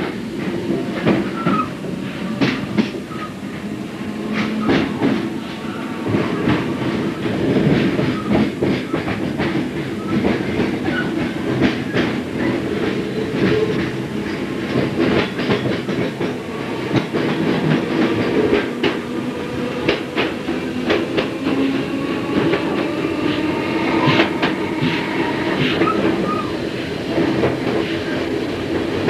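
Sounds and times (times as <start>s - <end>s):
train wheels clicking over rail joints: 0.0s - 26.4s
train motors rumbling and humming: 0.0s - 29.0s.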